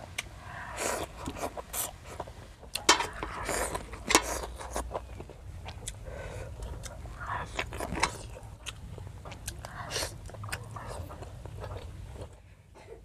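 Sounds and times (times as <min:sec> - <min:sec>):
chewing seaweed: 0:00.2 - 0:12.4.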